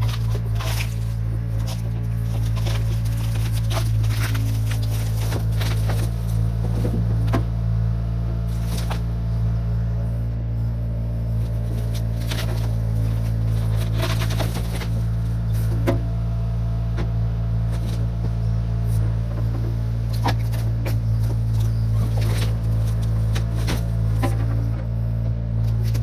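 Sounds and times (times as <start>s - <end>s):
truck engine low drone: 0.0s - 26.0s.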